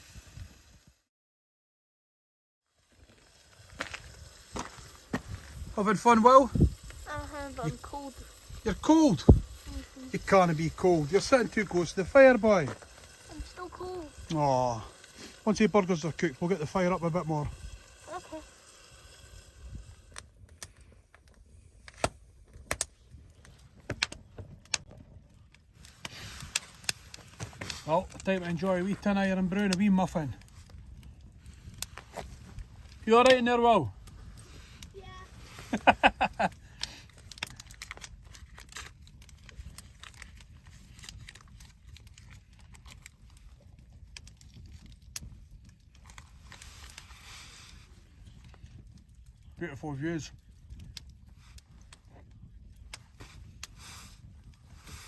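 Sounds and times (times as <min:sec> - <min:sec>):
campfire crackling: 0:02.7 - 0:55.0
sharp fire pops: 0:03.3 - 0:55.0.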